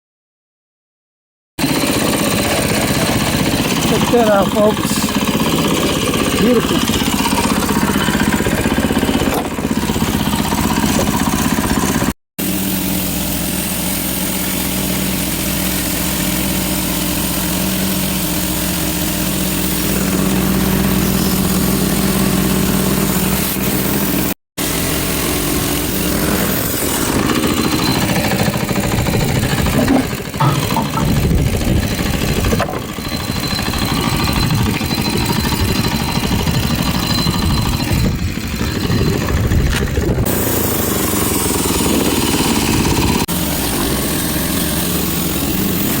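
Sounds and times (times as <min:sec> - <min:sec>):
sawmill engine running: 0:01.6 - 0:46.0.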